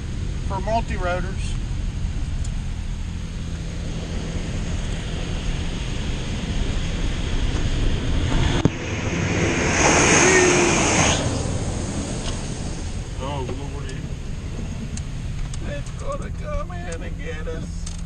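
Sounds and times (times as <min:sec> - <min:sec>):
car wash mechanical drone: 0:00.0 - 0:18.0.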